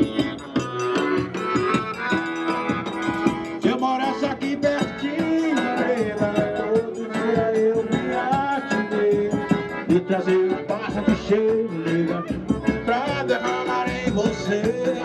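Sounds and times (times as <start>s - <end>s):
live band melody: 0.0s - 15.0s
shaker-like percussion: 0.0s - 15.0s.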